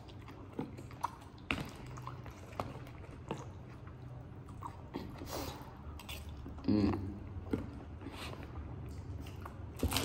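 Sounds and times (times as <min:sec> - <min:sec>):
person chewing noodles: 0:00.0 - 0:10.0.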